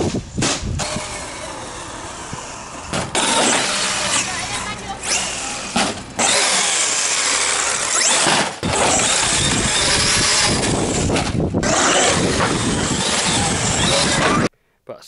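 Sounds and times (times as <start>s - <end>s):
tyre and drivetrain noise: 0.1s - 14.5s
electric motor whine: 0.8s - 14.5s.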